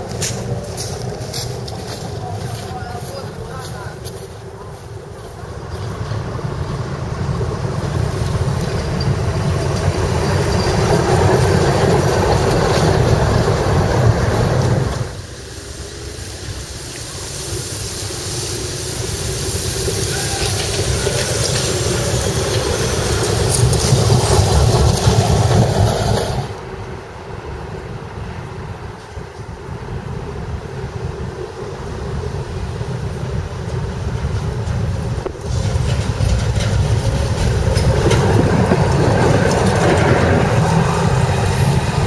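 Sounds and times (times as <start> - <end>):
tram rumbling on rails: 0.0 - 42.0.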